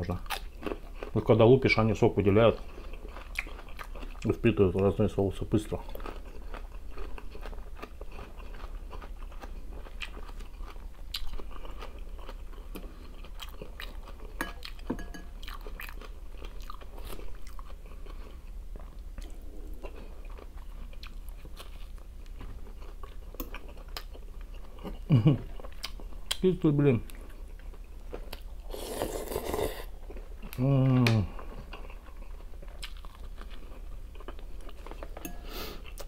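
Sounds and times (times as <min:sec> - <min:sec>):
steady low hum: 0:00.0 - 0:36.0
person chewing: 0:00.1 - 0:01.2, 0:02.4 - 0:04.5, 0:05.7 - 0:26.5, 0:27.1 - 0:36.0.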